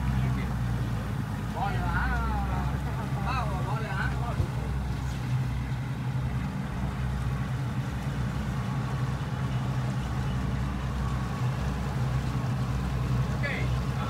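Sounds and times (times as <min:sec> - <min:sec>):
boat engine humming: 0:00.0 - 0:14.0
water rushing: 0:00.0 - 0:14.0.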